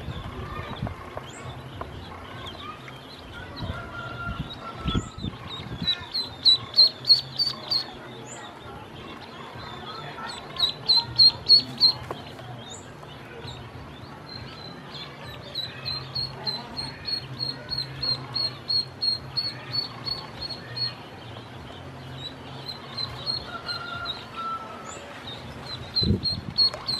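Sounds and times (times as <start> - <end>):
ducklings peeping: 0.0 - 26.9.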